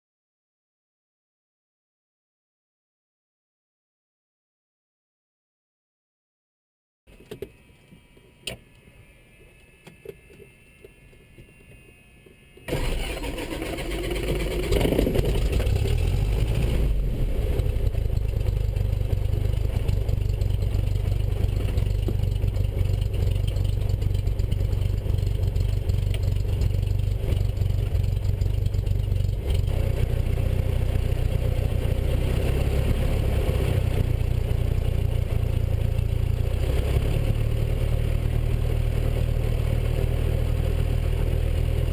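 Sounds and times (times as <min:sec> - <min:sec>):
aircraft engine starting and idling: 0:07.1 - 0:41.9.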